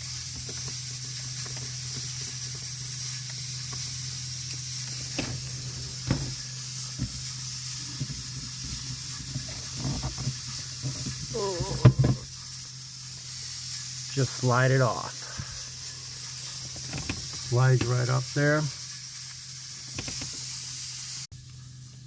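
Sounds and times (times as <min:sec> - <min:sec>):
steady hiss with low hum: 0:00.0 - 0:22.0.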